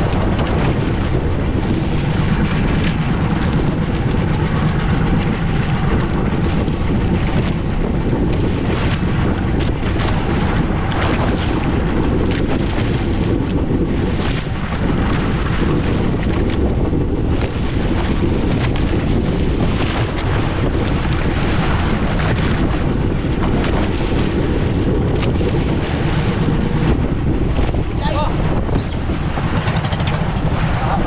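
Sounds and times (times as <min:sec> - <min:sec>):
fishing boat engine rumbling: 0:00.0 - 0:31.0
wind buffeting microphone: 0:00.0 - 0:31.0.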